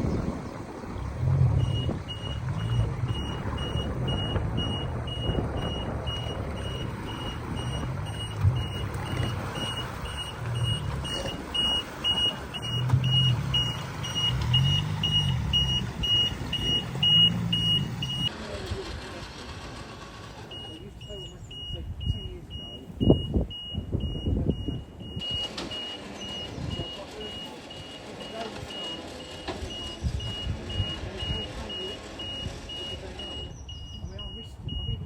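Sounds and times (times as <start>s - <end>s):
car engine running: 0.0s - 34.9s
car warning beeper: 1.4s - 18.3s, 20.4s - 35.0s.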